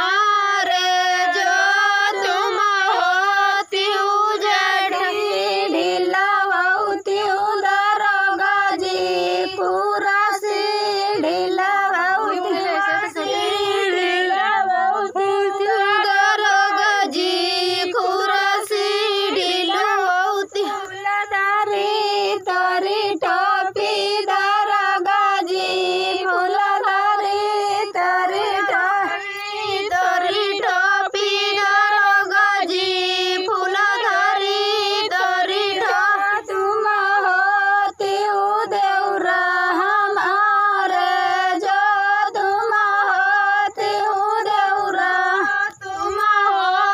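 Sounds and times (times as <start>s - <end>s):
women singing folk song: 0.0s - 46.9s.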